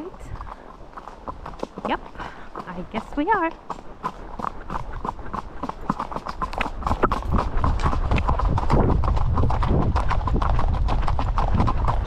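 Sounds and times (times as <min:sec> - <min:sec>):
horse hooves cantering: 0:00.0 - 0:12.0.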